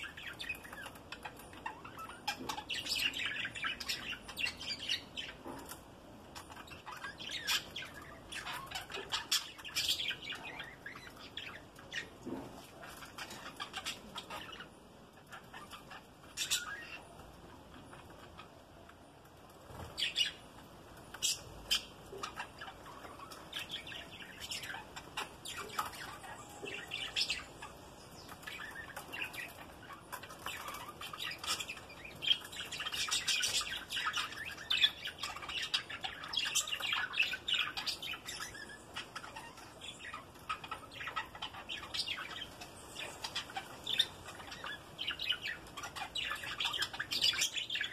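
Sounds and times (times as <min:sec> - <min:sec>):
budgerigars chirping and squawking: 0:00.0 - 0:47.9.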